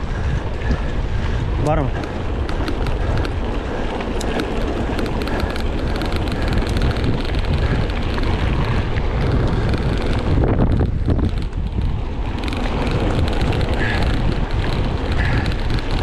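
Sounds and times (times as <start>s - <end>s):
wind buffeting microphone: 0.0s - 16.0s
clicks and rattles: 1.9s - 16.0s.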